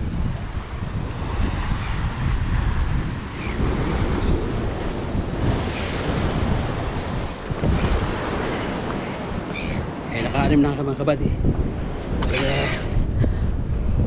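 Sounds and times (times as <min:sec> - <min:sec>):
sea surf against rocks: 0:00.0 - 0:14.0
wind buffeting microphone: 0:00.0 - 0:14.0.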